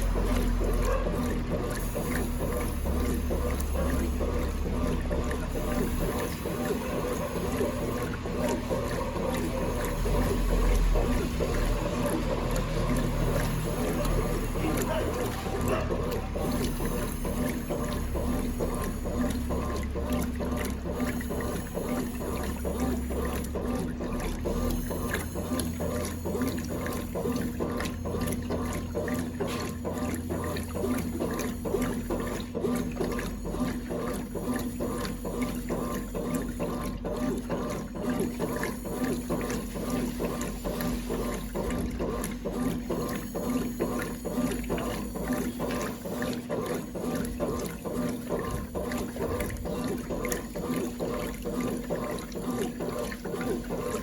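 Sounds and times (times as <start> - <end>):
steady motor hum: 0.0 - 54.0
water churning in washing machine: 0.0 - 54.0.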